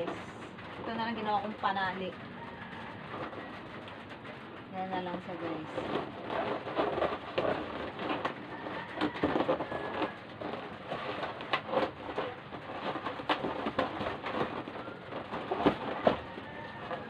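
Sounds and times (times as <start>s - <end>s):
balloons rubbing and squeaking: 0.0s - 17.0s.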